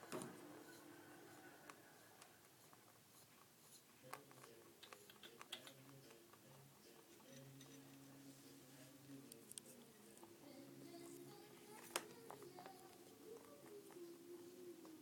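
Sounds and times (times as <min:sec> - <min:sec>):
faint low hum: 0:00.0 - 0:15.0
rabbit chewing food: 0:00.0 - 0:15.0.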